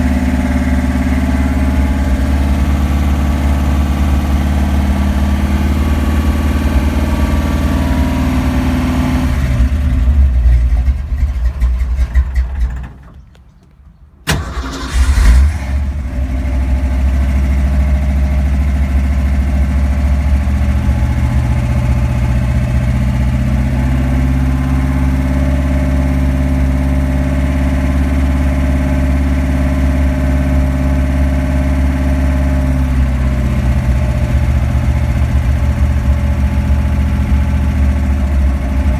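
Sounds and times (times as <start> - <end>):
car engine revving and idling: 0.0 - 12.8, 14.8 - 38.9.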